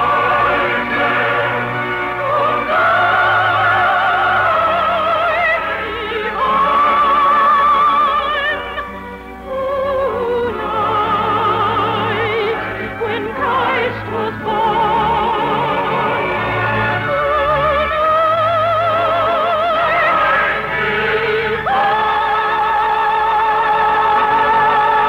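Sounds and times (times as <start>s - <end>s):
operatic singing: 0.0s - 25.0s
orchestral accompaniment: 0.0s - 25.0s.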